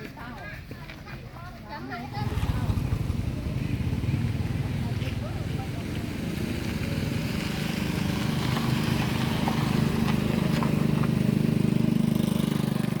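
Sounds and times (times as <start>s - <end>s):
small motorcycle engine running: 2.1s - 13.0s.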